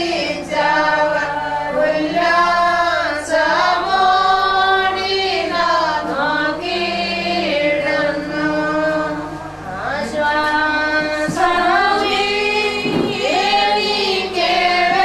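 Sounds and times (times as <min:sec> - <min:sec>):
group singing a slow hymn: 0:00.0 - 0:15.0.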